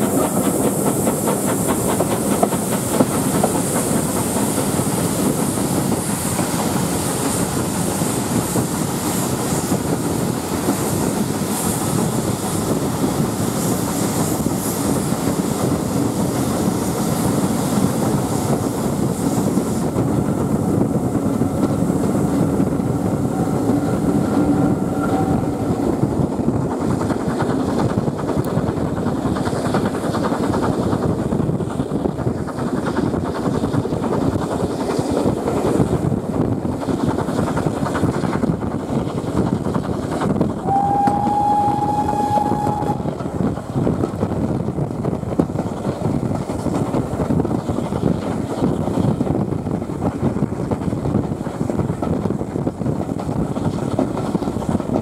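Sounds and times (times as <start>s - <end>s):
train coaches rumbling on rails: 0.0s - 55.0s.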